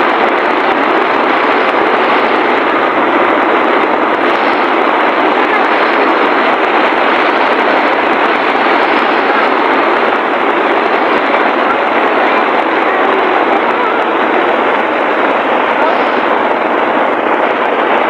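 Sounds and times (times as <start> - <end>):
heavy rain on plastic cover: 0.0 - 18.0
road and wind noise: 0.0 - 18.0.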